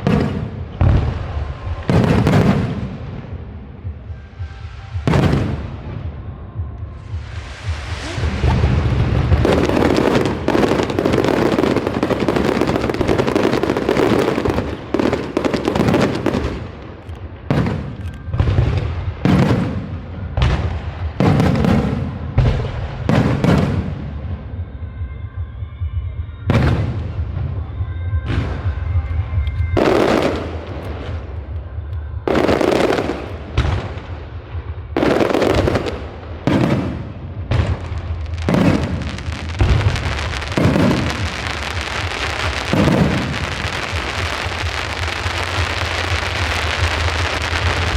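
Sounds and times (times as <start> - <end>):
fireworks bursting: 0.0 - 24.6, 26.4 - 47.9.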